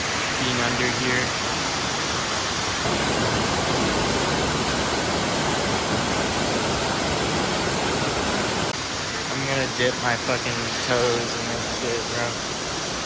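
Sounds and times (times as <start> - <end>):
waterfall echoing in a cave: 0.0 - 13.0.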